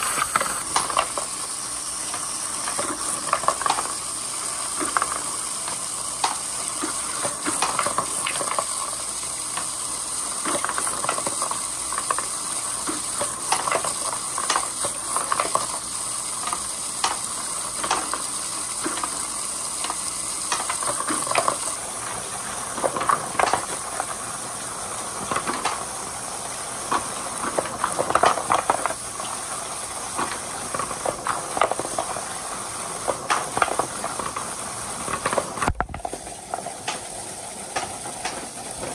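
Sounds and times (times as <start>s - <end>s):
water rushing down gutters: 0.0s - 38.9s
wooden balls knocking and splashing: 0.3s - 1.4s, 2.1s - 4.0s, 4.7s - 9.8s, 10.4s - 24.2s, 25.1s - 26.0s, 26.7s - 38.9s.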